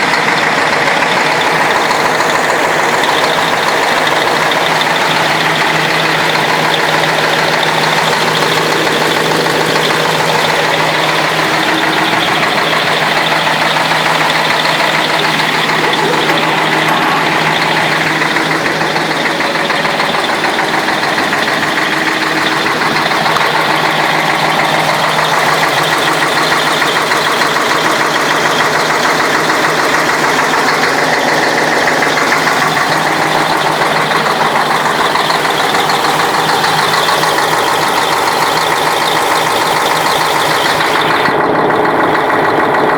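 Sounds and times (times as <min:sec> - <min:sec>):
diesel engine idling with knock: 0:00.0 - 0:42.9.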